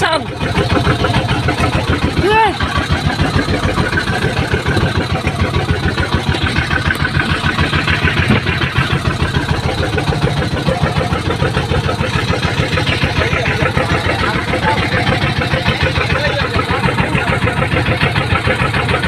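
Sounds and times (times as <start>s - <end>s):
small boat engine running: 0.0s - 19.0s.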